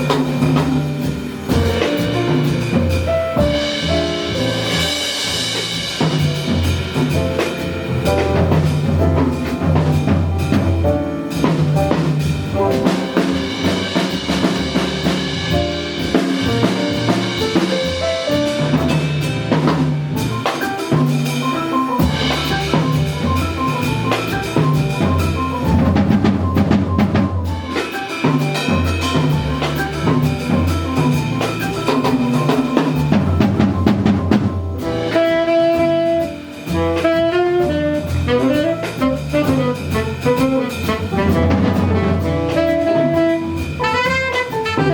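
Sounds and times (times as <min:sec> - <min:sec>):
piano or guitar chords: 0:00.0 - 0:36.9
bass line: 0:00.0 - 0:44.9
jazz drum kit: 0:00.0 - 0:44.9.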